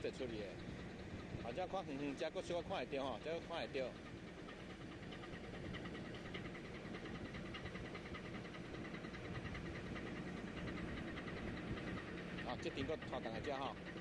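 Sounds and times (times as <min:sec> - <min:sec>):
ship engine humming with ticking: 0:00.0 - 0:14.0.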